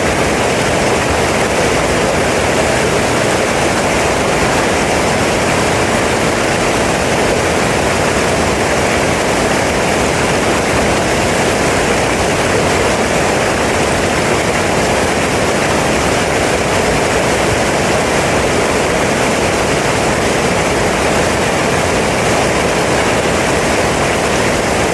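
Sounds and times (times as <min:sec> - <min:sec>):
water rushing over rocks: 0:00.0 - 0:24.9.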